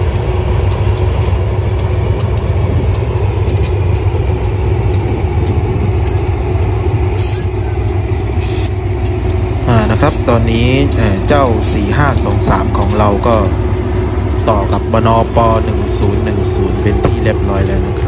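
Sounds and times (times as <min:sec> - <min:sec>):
diesel locomotive engine drone: 0:00.0 - 0:18.0
faint whine: 0:00.0 - 0:18.0.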